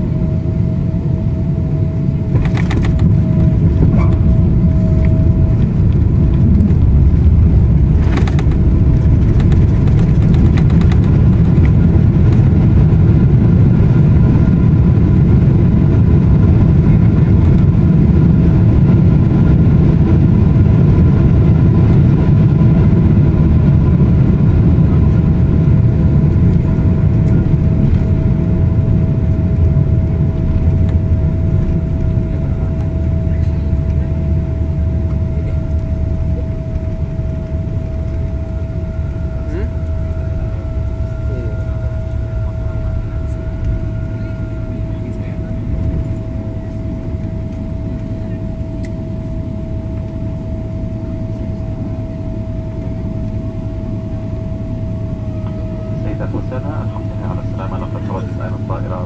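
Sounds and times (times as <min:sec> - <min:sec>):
airliner cabin rumble: 0:00.0 - 0:59.0
steady engine whine: 0:00.0 - 0:59.0.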